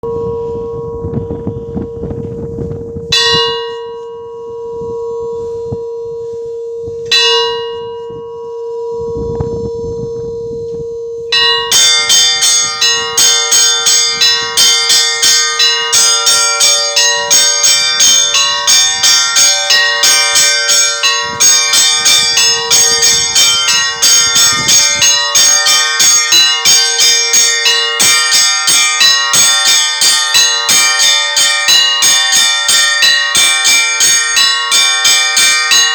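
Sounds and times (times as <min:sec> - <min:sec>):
fast peal of many bells: 0:00.0 - 0:35.9
large bell struck: 0:00.0 - 0:35.9.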